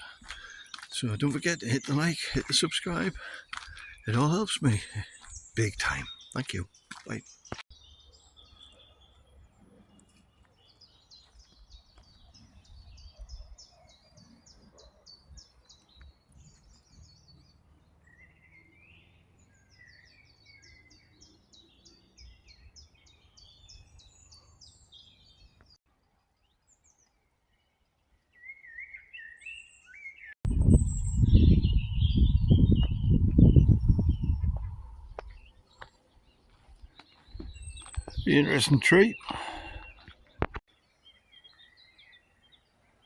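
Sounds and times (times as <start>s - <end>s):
bird calls: 0.0s - 25.8s, 28.3s - 43.0s
songbird singing: 0.0s - 43.0s.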